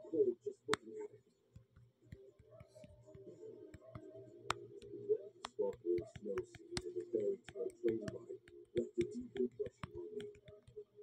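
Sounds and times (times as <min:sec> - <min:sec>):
muffled background music: 0:00.0 - 0:11.0.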